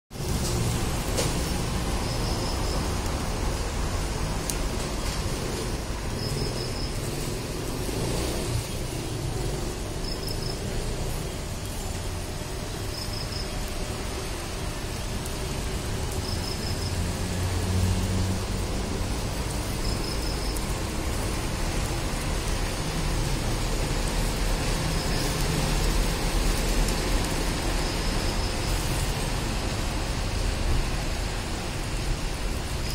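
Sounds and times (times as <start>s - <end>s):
passing traffic rumble: 0.1s - 32.9s
steady street hiss: 0.1s - 32.9s.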